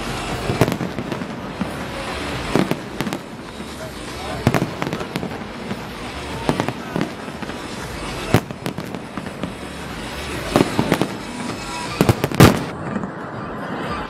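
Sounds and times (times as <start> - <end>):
fireworks crackling: 0.0 - 14.0
fireworks sharp bangs: 0.0 - 14.0.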